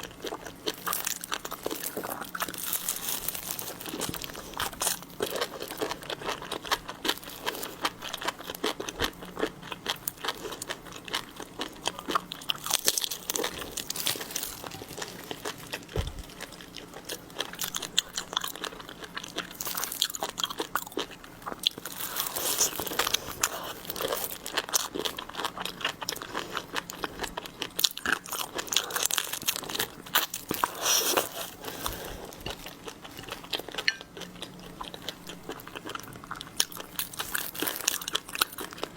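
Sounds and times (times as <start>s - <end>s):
chewing and crunching seafood: 0.0s - 38.9s.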